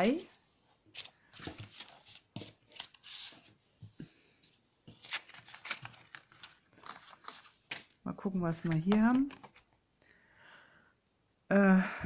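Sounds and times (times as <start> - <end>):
paper rustling: 0.0 - 9.8.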